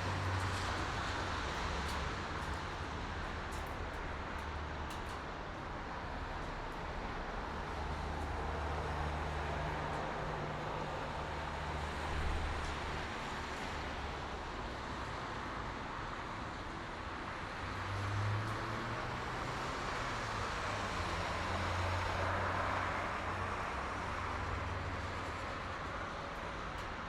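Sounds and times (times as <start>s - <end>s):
highway traffic: 0.0s - 27.0s.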